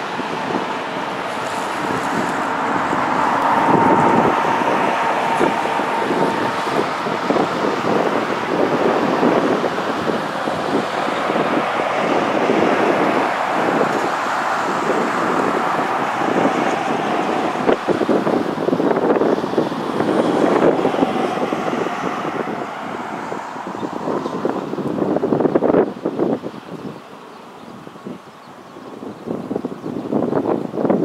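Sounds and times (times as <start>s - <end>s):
jet engines on approach: 0.0s - 31.0s
wind buffeting microphone: 0.0s - 31.0s.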